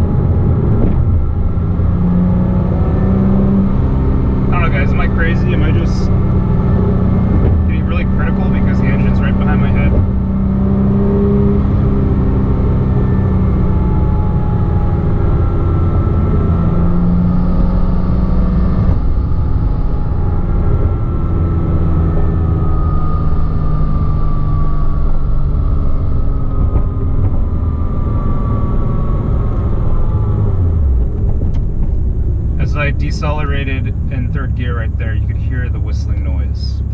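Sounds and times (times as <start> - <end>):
car engine decelerating: 0.0 - 36.9.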